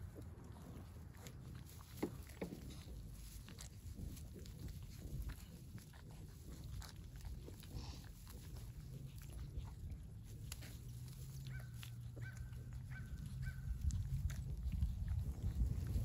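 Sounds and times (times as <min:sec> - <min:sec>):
rustling in straw: 0:00.0 - 0:16.0.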